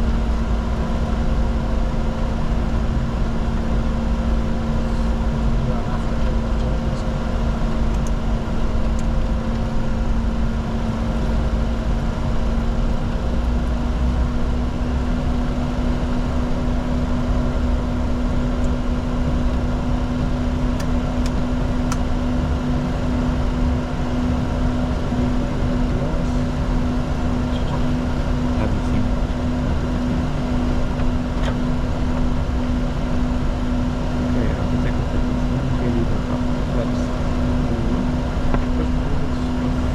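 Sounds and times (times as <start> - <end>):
constant hum: 0.0 - 39.9
jet engine and airflow drone: 0.0 - 39.9.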